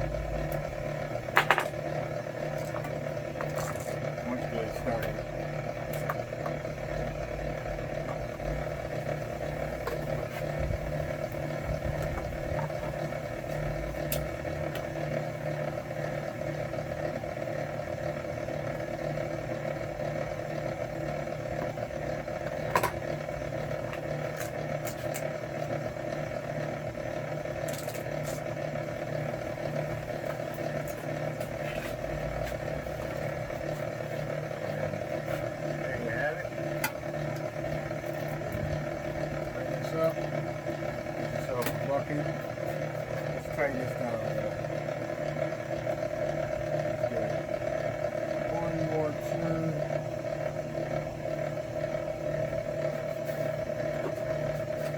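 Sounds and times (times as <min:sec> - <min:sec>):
wire stripping machine humming: 0:00.0 - 0:54.9.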